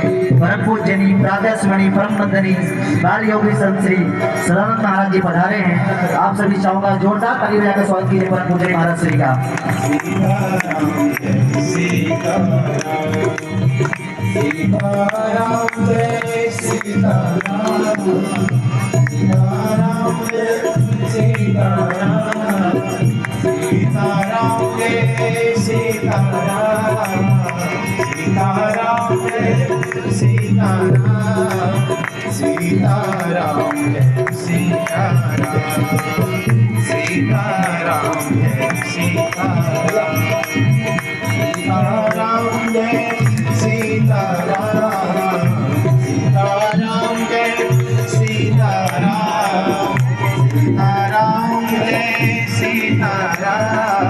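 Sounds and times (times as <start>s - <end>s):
devotional music with tabla: 0.0s - 54.0s.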